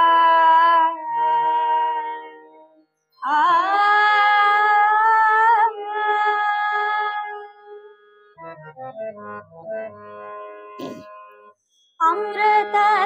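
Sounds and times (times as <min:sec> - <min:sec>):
harmonium: 0:00.0 - 0:13.0.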